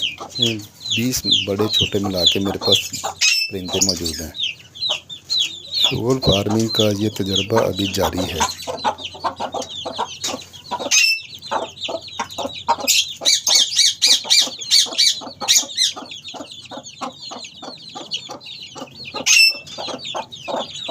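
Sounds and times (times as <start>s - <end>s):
chicks peeping: 0.0s - 20.9s
hens clucking: 0.0s - 20.9s
sharp hen calls: 0.0s - 20.9s.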